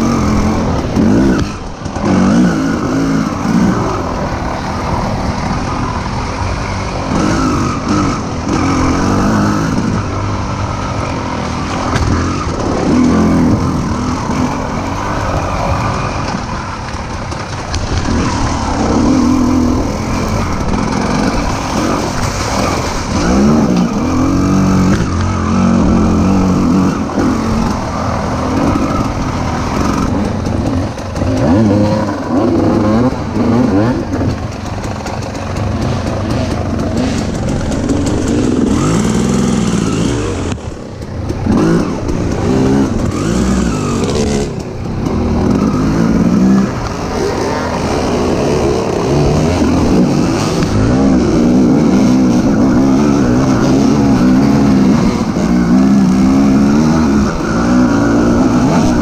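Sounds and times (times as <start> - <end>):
dirt bike engine revving: 0.0 - 59.0
steady rushing noise: 0.0 - 59.0.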